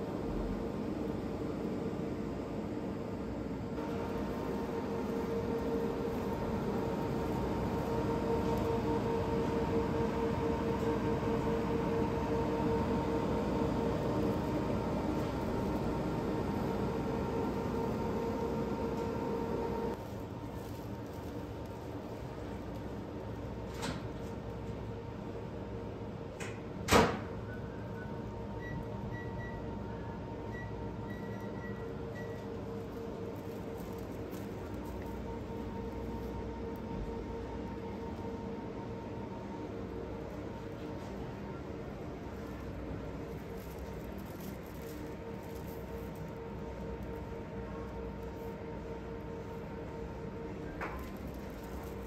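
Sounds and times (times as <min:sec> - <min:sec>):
mechanical hum: 0:00.0 - 0:52.0.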